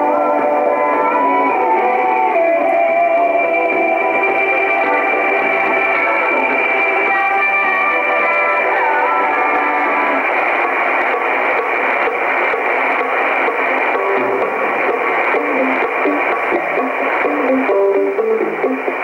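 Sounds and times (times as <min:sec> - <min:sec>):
radio hiss with static crackles: 0:00.0 - 0:19.0
shortwave radio music: 0:00.0 - 0:19.0.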